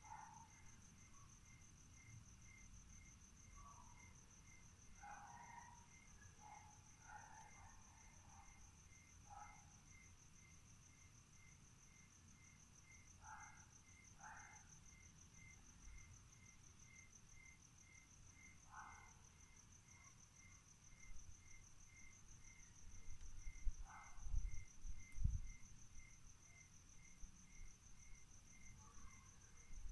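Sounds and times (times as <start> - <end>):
lower cricket chirp: 0.0 - 29.9.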